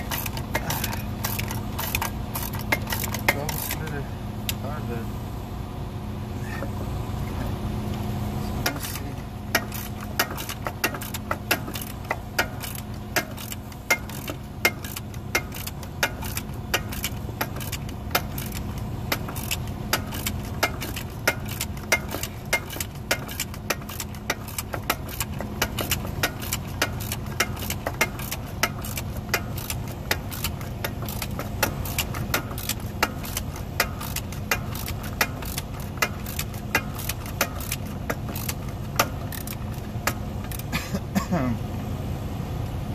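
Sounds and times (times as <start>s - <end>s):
ratchet wrench clicking: 0.0s - 3.9s, 8.6s - 40.7s
steady low hum: 0.0s - 42.9s.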